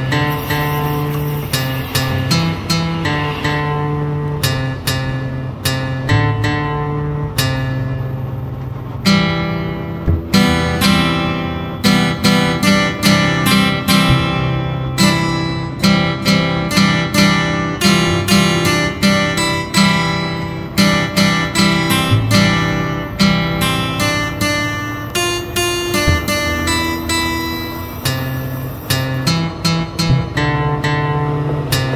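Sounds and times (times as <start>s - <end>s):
acoustic guitar strumming: 0.0s - 31.9s.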